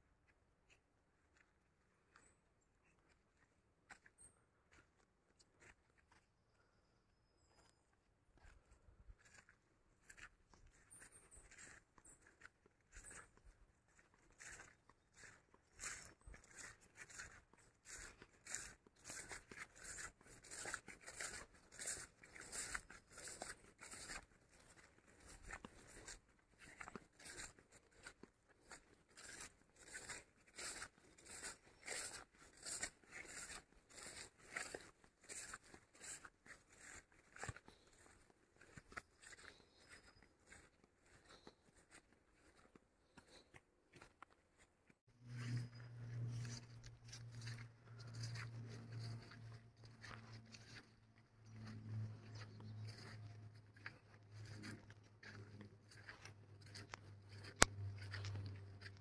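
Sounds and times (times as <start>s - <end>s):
footsteps through long grass: 0.2s - 59.0s.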